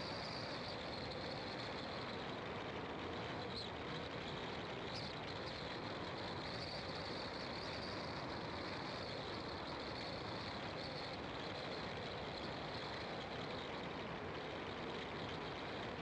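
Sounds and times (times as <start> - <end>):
constant high hiss: 0.0 - 16.0.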